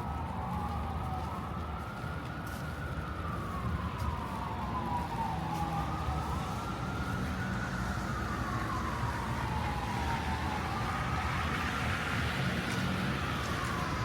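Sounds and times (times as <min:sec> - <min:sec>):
emergency siren wailing: 0:00.0 - 0:14.0
low rumble of city traffic: 0:00.0 - 0:14.0.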